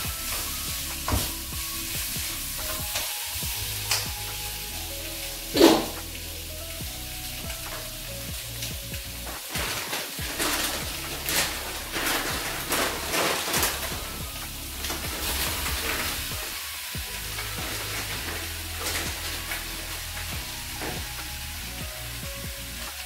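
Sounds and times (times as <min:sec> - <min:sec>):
chicken sizzling in a wok: 0:00.0 - 0:23.0.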